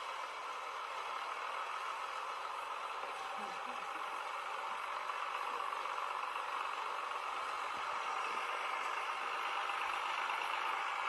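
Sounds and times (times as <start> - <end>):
tractor running: 0.0 - 11.0.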